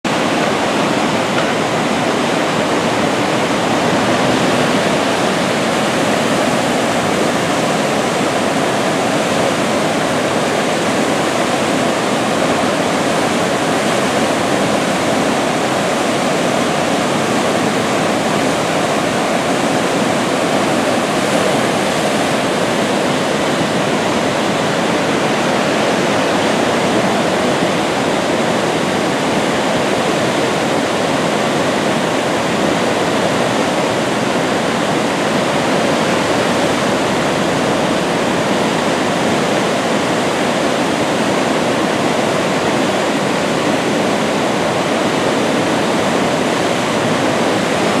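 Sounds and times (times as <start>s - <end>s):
river rushing over dam: 0.0s - 48.0s.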